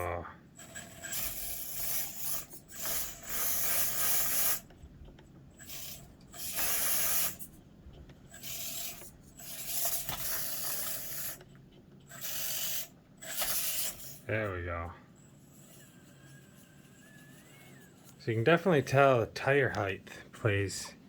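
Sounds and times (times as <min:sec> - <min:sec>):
rc car motor and gears whirring: 0:00.0 - 0:04.9, 0:05.5 - 0:18.6.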